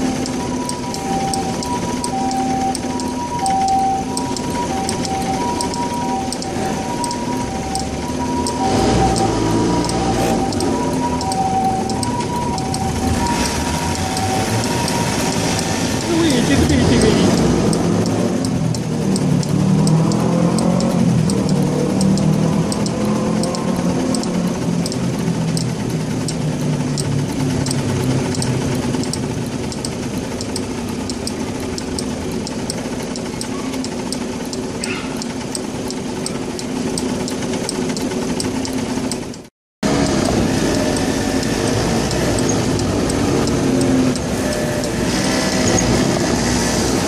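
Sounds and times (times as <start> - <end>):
go-kart engines idling: 0.0 - 47.0.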